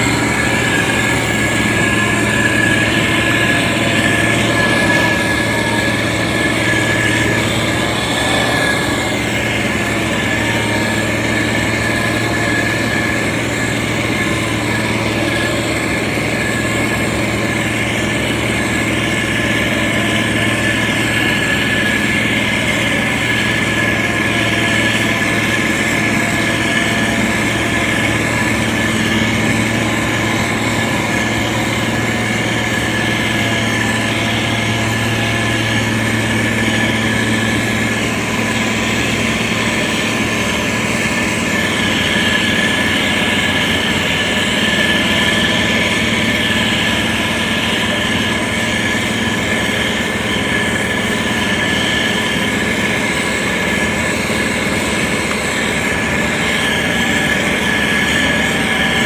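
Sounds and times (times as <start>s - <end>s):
high whine: 0.0s - 59.0s
motor grader diesel engine: 0.0s - 59.0s.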